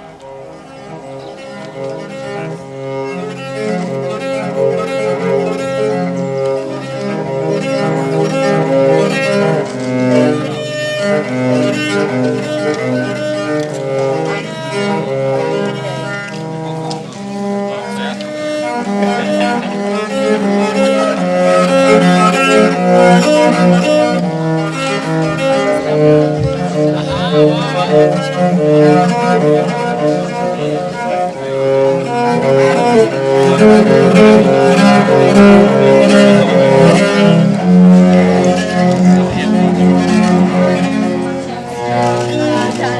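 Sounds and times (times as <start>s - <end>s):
viola slow bowed notes: 0.0s - 42.9s.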